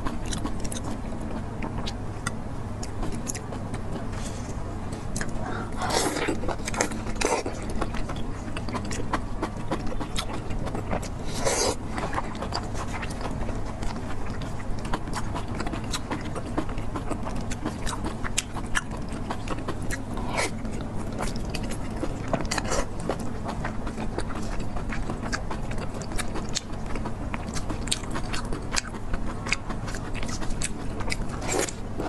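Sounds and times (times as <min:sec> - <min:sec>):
wet chewing mouth sounds: 0:00.0 - 0:32.0.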